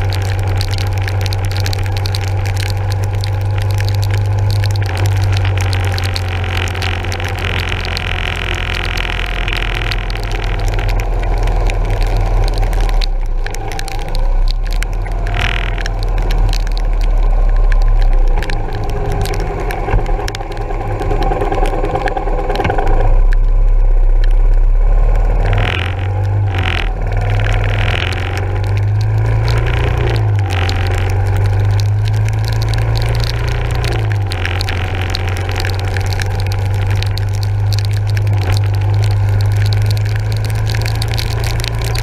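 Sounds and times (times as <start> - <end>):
tyres on wet road: 0.0 - 42.0
wind and rain hiss: 0.0 - 42.0.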